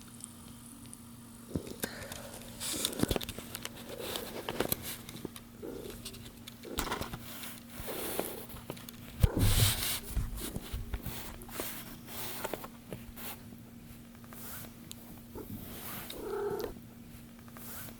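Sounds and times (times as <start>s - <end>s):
kittens rustling: 1.5s - 17.9s.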